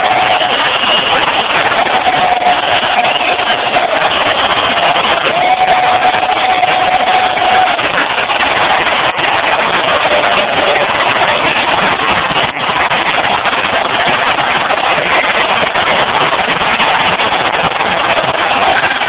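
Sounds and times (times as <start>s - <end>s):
crowd cheering: 0.0s - 19.0s.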